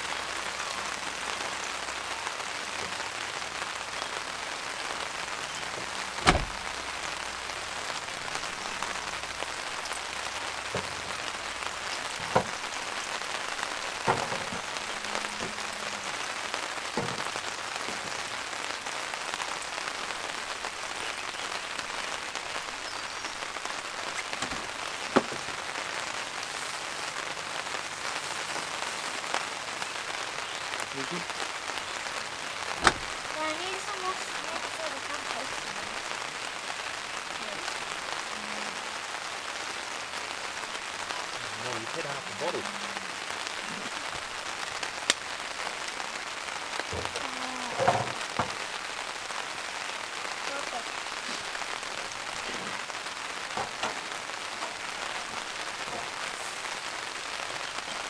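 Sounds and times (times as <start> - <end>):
rain falling on a tarp: 0.0 - 58.0.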